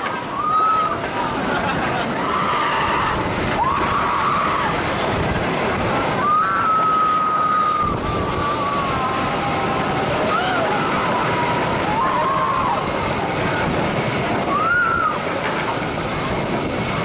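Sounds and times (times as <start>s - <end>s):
roller coaster wind and track noise: 0.0s - 17.0s.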